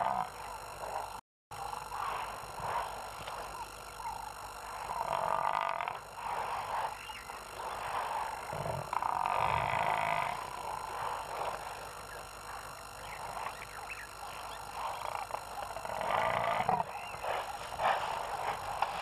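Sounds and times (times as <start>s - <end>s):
wild animal calls: 2.0s - 11.8s, 13.2s - 19.0s.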